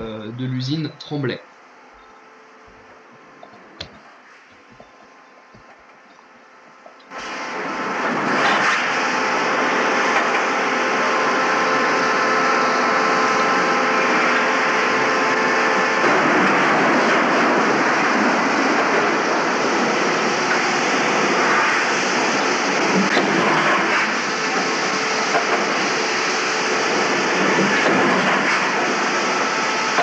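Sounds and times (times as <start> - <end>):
forging machinery noise: 0.0 - 30.0.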